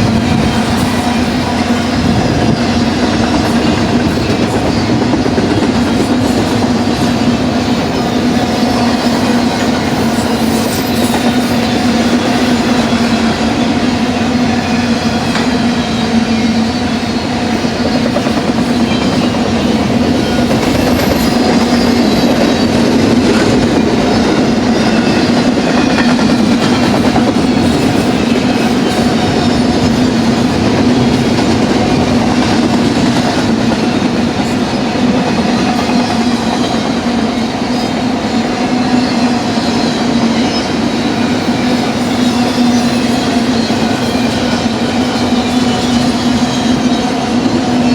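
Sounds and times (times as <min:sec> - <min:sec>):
continuous train hum: 0:00.0 - 0:47.9
train wheels rumbling on rails: 0:00.0 - 0:47.9.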